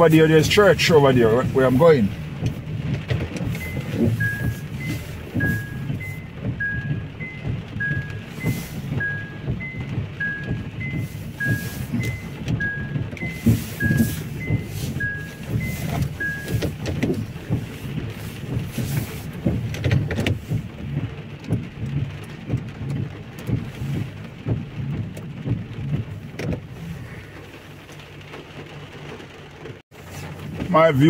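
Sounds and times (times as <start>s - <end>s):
rain on umbrella: 0.0s - 31.0s.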